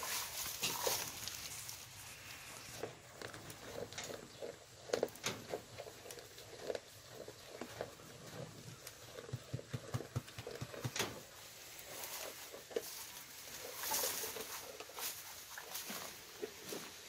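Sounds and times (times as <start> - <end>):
goat crunching feed: 0.0 - 17.0
rustling: 0.0 - 17.0.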